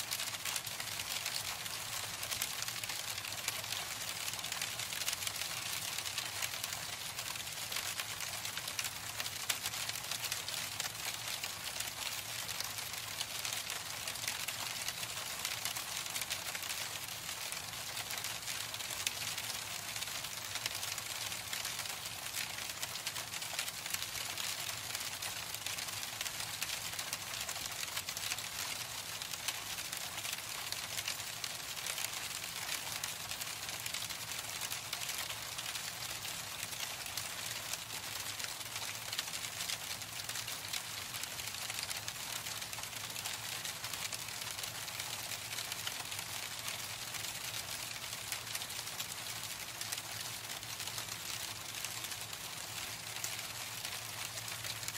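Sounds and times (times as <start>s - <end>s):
hail falling: 0.0s - 54.9s.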